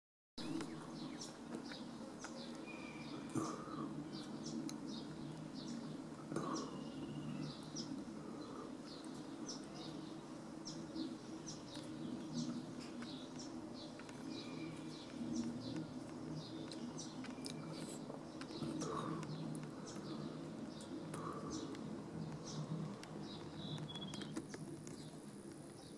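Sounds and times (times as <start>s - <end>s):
small birds chirping: 0.4s - 25.9s.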